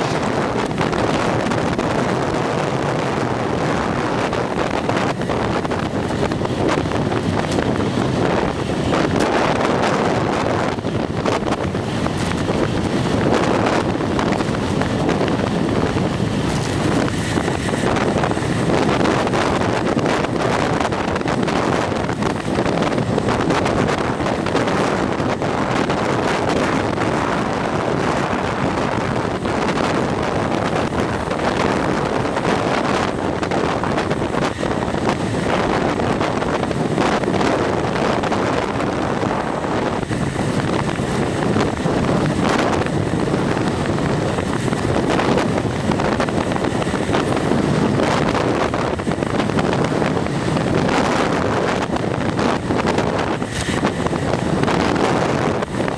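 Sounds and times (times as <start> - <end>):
wind on microphone: 0.0 - 55.9.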